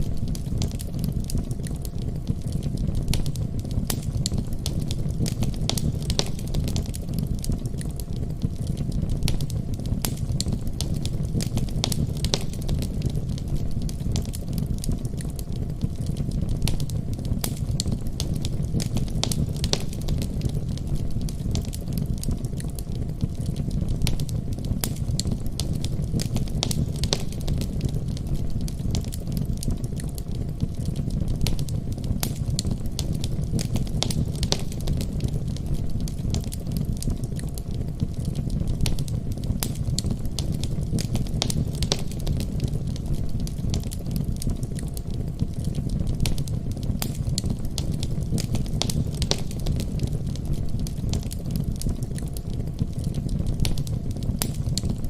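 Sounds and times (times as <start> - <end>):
fire crackles and pops: 0.0 - 55.0
fire low rumble: 0.0 - 55.0.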